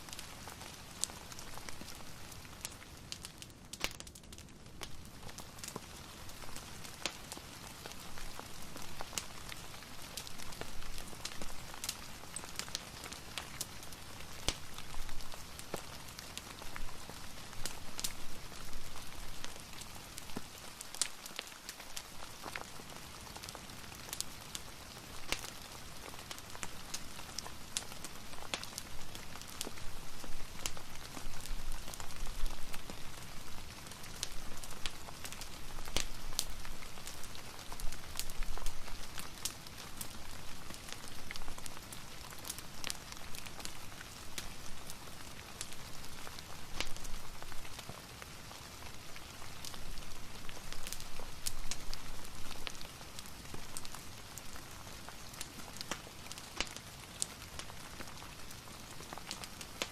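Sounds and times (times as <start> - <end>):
crackling fireplace: 0.0 - 59.9
soft steady rain: 0.0 - 59.9.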